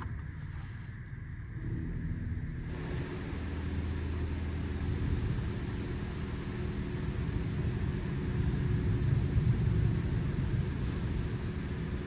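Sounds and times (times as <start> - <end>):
car wash machinery rumbling: 0.0 - 12.0
motor hum: 0.0 - 12.0.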